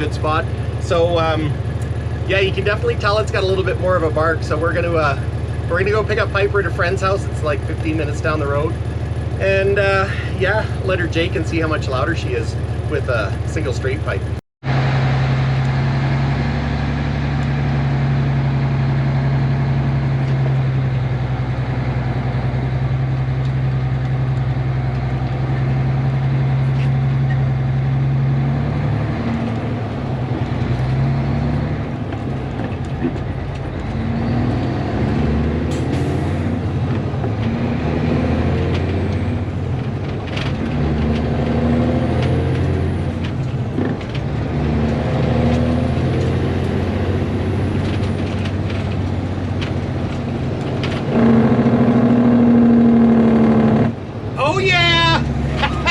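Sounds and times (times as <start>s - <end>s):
diesel truck engine barking exhaust: 0.0s - 55.9s.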